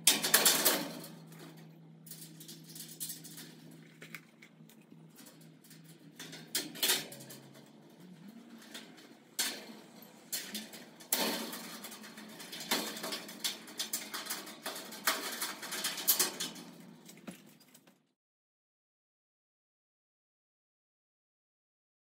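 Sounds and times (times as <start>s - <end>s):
metal strips clinking and scraping: 0.0s - 17.8s.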